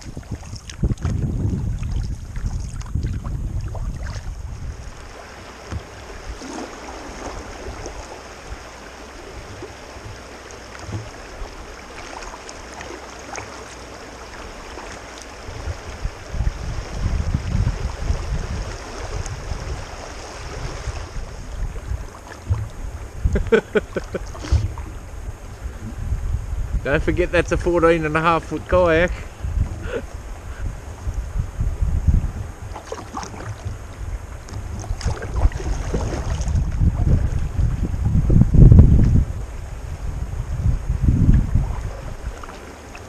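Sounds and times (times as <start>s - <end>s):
wind buffeting microphone: 0.0s - 13.6s, 14.4s - 43.0s
water lapping against hull: 0.0s - 43.0s.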